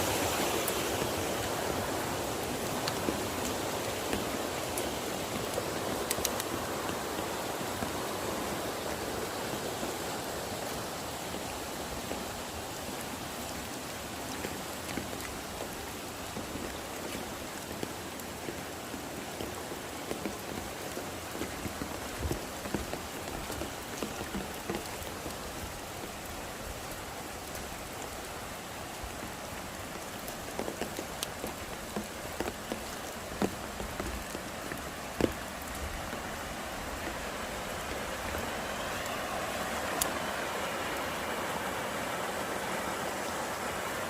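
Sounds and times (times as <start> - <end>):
raindrops ticking close by: 0.0 - 44.0
steady rain falling: 0.0 - 44.0.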